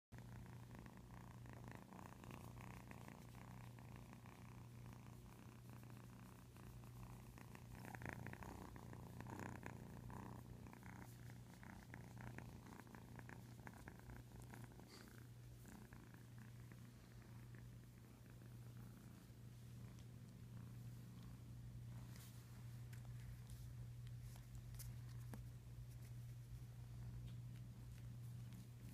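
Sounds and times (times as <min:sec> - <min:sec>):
kitten purring: 0:00.1 - 0:28.9.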